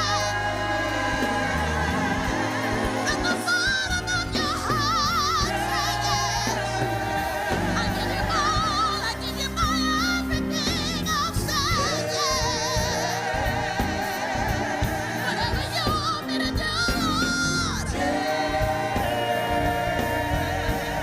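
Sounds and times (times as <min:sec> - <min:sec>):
gospel singing voice: 0:00.0 - 0:21.0.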